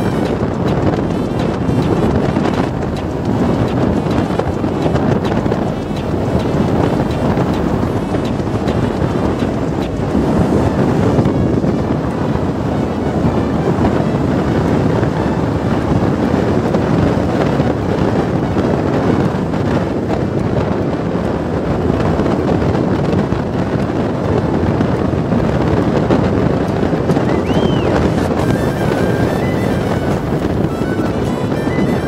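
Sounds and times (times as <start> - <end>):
motorcycle running: 0.0 - 32.0
wind buffeting microphone: 0.0 - 32.0.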